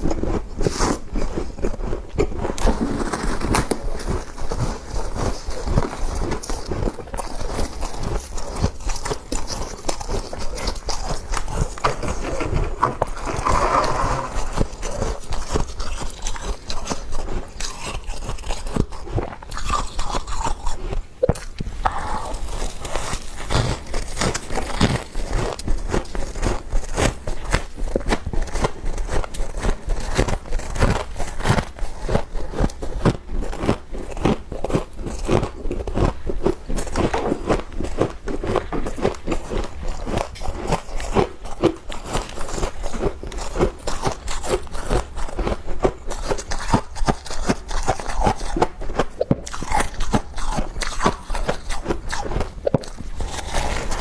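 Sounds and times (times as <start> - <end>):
frost being chewed crunching: 0.0 - 54.0.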